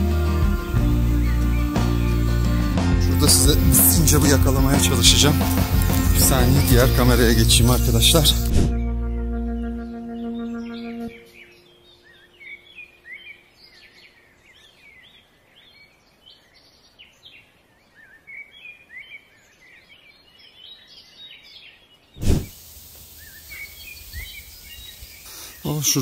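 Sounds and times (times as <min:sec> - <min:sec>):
songbirds chirping and singing: 0:00.0 - 0:22.2, 0:23.1 - 0:26.0.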